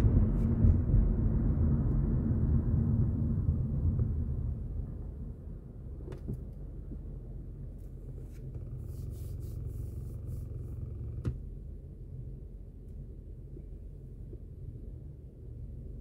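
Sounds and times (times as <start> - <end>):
car idling rumble: 0.0 - 16.0.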